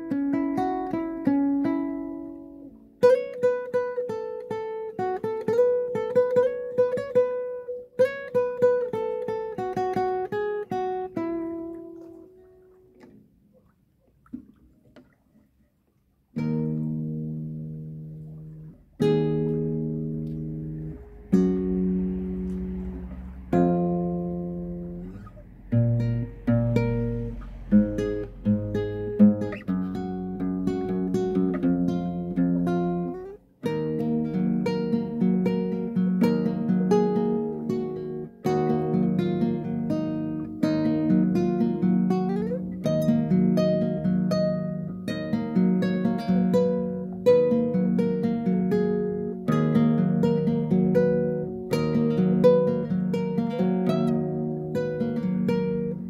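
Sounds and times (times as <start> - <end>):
acoustic guitar: 0.0 - 56.0.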